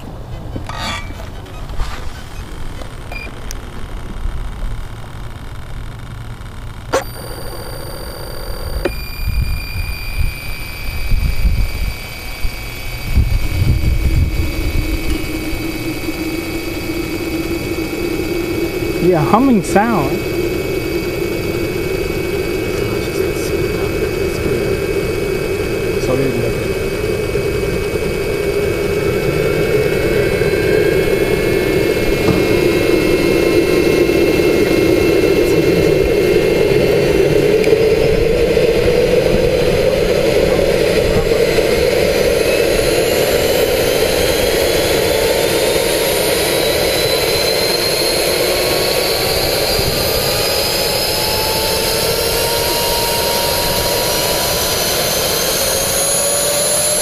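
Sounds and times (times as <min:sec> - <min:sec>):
jet turbine rushing: 0:00.0 - 0:57.0
turbine whine rising: 0:00.0 - 0:57.0.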